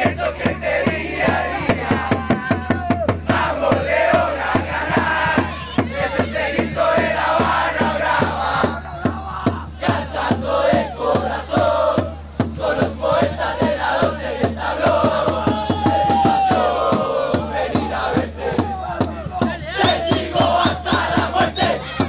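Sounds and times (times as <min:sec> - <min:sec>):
crowd chanting in unison: 0:00.0 - 0:22.0
fast drum beats: 0:00.0 - 0:22.0.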